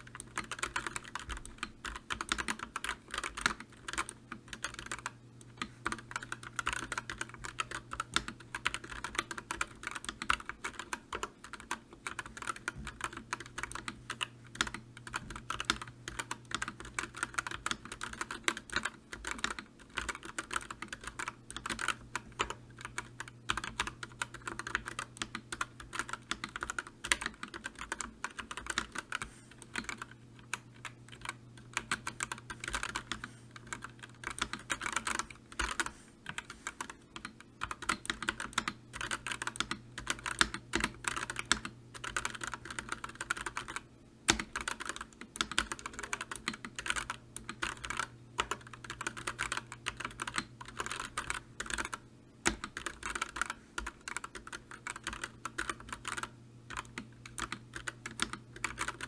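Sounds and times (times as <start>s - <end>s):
faint low hum: 0.0s - 59.0s
typing on computer keyboard: 0.0s - 59.0s.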